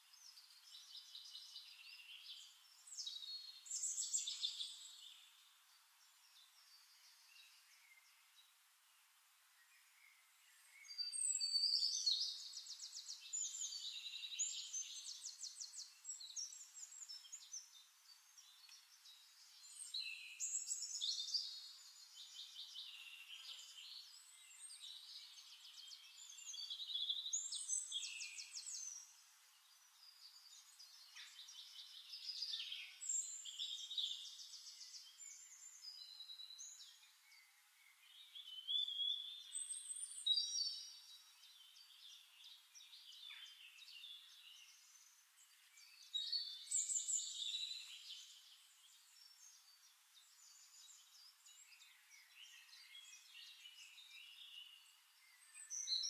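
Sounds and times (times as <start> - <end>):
songbird trilling and chirping: 0.0 - 8.4, 10.5 - 56.0.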